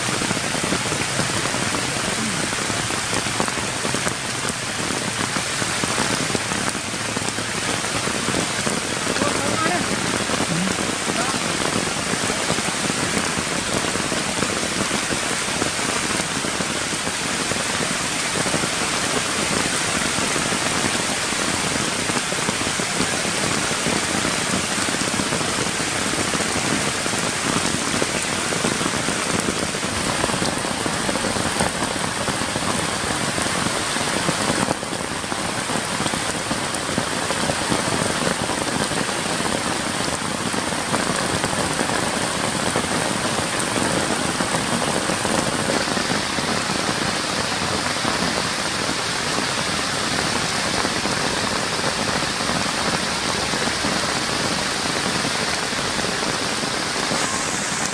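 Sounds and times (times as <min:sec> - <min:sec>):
heavy rain on wet ground: 0:00.0 - 0:57.9.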